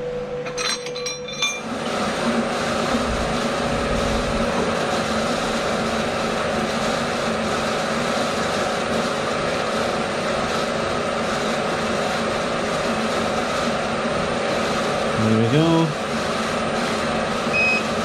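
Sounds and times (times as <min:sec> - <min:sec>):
milling machine motor humming: 0:01.6 - 0:08.1, 0:08.8 - 0:18.0.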